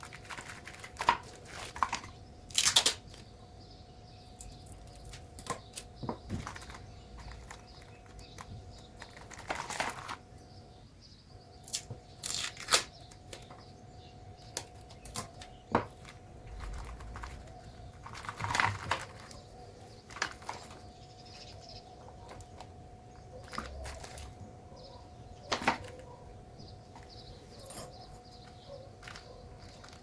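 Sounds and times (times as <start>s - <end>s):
crinkling and tearing handling noises: 0.0s - 3.4s, 4.3s - 10.5s, 11.6s - 13.7s, 14.3s - 27.4s, 28.0s - 30.0s.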